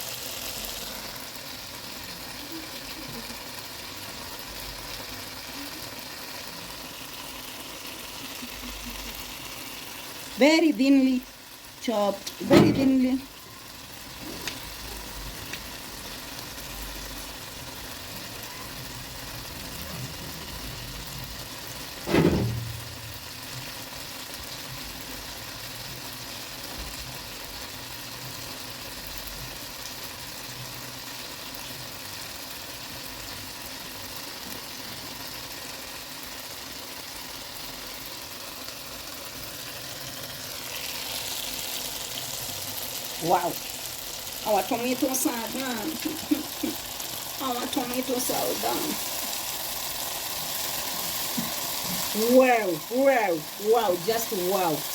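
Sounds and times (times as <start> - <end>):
tomatoes sizzling in a frying pan: 0.0 - 54.9.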